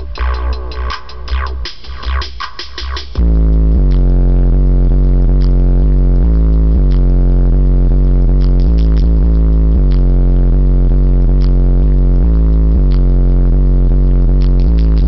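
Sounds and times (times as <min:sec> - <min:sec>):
electronic bass music: 0:00.0 - 0:15.0.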